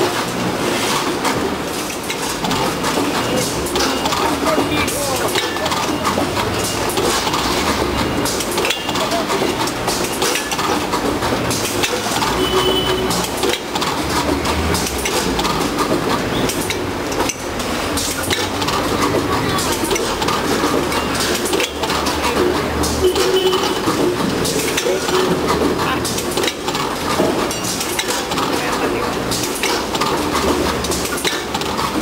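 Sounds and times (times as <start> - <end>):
metal hoppers clattering: 0.0 - 32.0.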